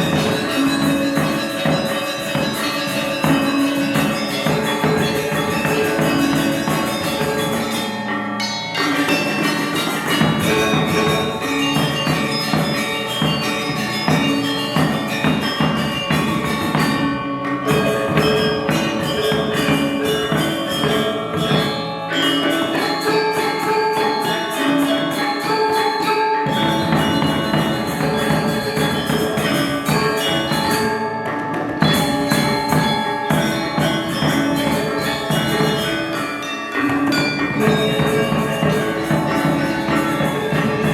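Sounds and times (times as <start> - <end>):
drums: 0.0 - 40.9
gamelan ensemble playing: 0.0 - 40.9.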